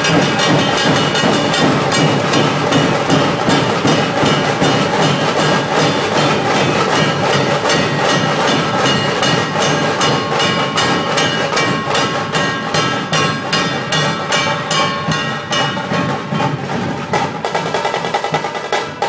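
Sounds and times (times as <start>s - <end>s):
drum troupe beating fast rhythm: 0.0s - 19.0s.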